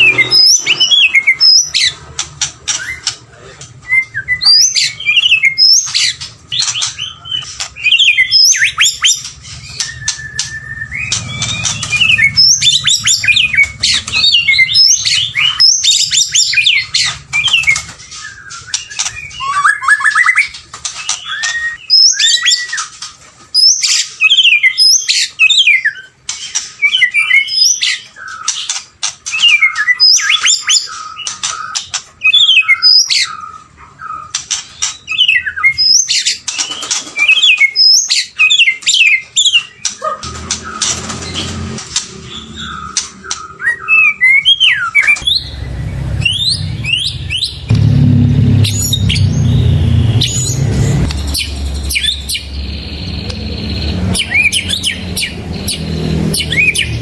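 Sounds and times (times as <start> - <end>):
bird singing whistles and chatter: 3.8 - 23.0, 23.6 - 41.5, 42.2 - 45.6, 48.7 - 57.0.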